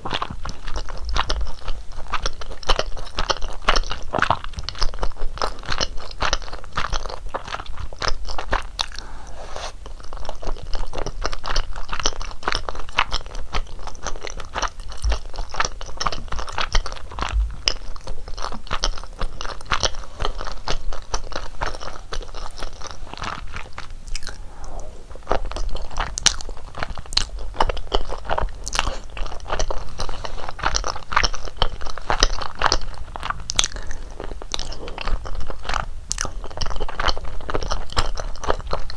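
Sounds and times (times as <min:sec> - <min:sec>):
chewing and biting: 0:00.0 - 0:24.5, 0:25.1 - 0:38.9.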